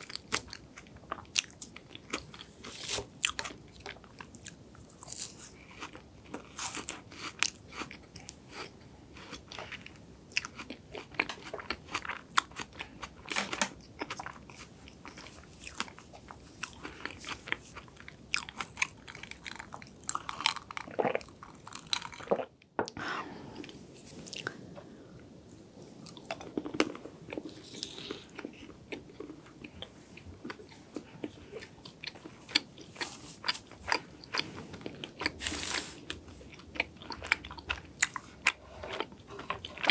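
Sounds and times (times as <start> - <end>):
close chewing with mouth clicks: 0.0 - 22.5, 25.8 - 39.9.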